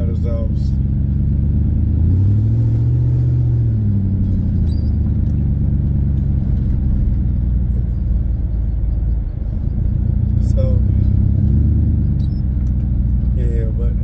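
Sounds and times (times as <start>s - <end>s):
truck engine through broken exhaust: 0.0s - 14.0s.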